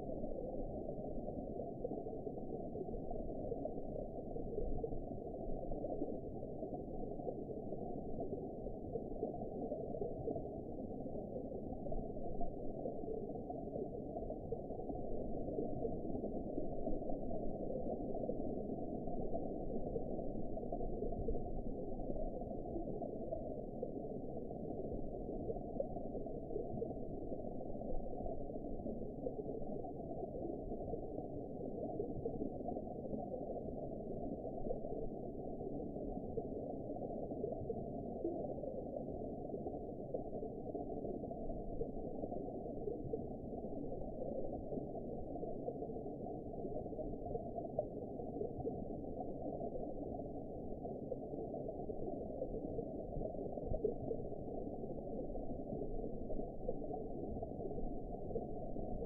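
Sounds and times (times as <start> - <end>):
underwater wash and gurgle: 0.0 - 59.0.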